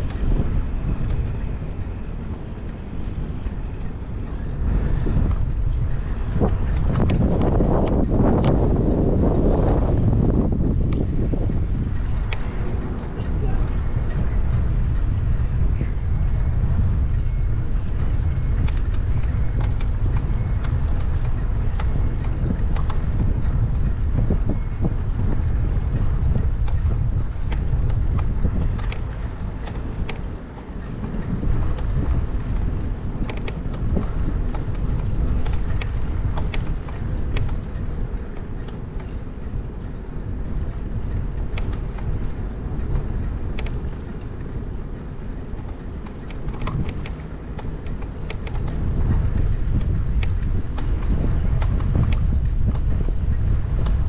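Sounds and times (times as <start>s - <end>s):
small clicks and rattles: 0.0s - 54.0s
wind buffeting microphone: 0.0s - 54.0s.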